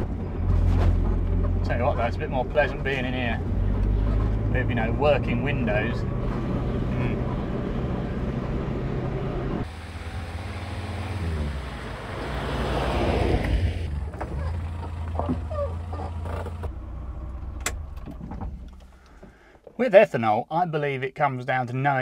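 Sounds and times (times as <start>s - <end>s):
car engine droning: 0.0s - 19.5s.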